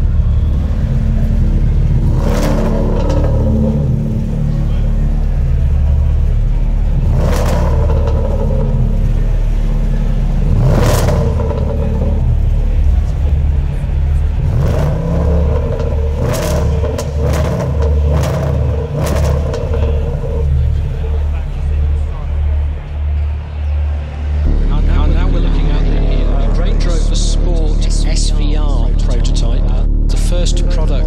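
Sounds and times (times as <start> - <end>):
car engine revving: 0.0 - 31.0
exhaust cracks: 0.0 - 31.0.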